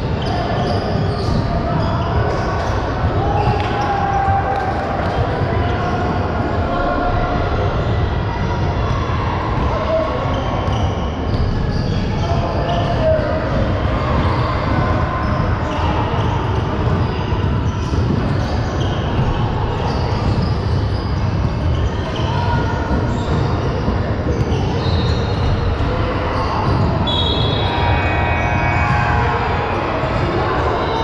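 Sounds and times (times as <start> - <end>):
many voices talking: 0.0 - 31.0.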